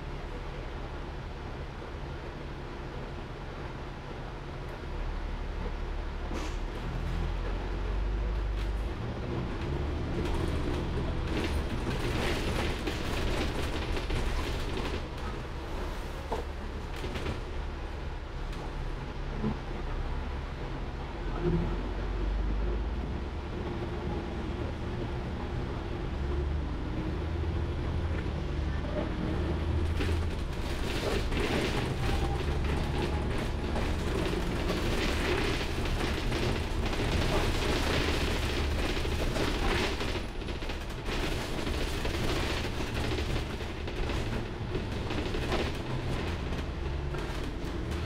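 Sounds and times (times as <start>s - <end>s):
bus body creaking and rattling: 0.0s - 48.0s
bus engine rumble: 0.0s - 48.0s.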